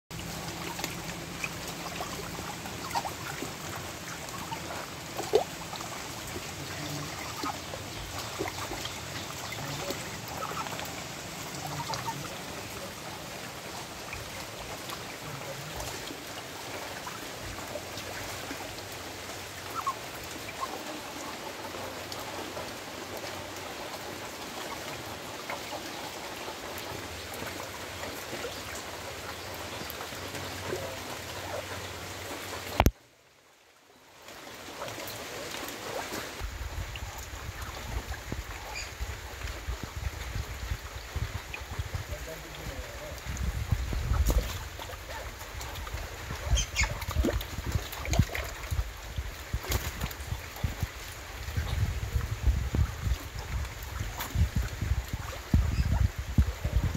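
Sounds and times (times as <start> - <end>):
ducks splashing: 0.1 - 32.9, 34.3 - 56.9
water trickling in concrete channel: 0.1 - 33.0, 33.6 - 56.9.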